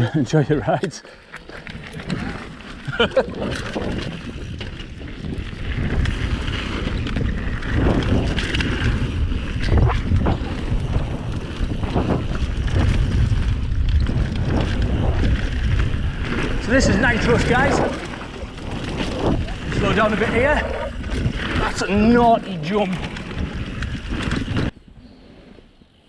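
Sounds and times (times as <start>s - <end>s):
tyres rumbling on dirt: 0.0s - 24.8s
wind buffeting microphone: 0.0s - 26.0s
bike knocking and rattling: 1.0s - 24.8s.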